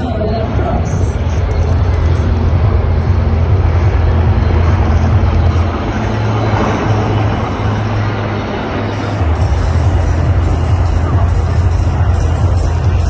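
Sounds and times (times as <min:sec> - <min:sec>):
helicopters flying past: 0:00.0 - 0:13.0.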